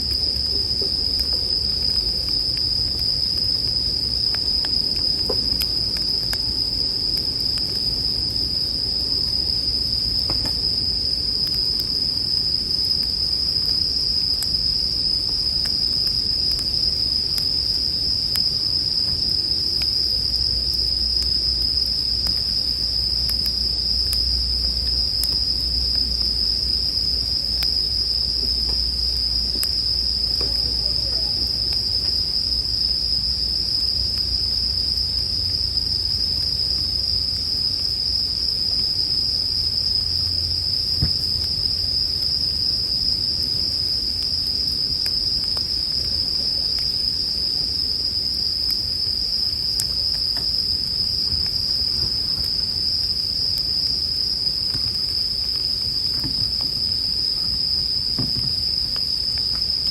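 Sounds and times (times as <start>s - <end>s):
campfire crackles: 0.0s - 59.9s
crickets chorus ringing: 0.0s - 59.9s.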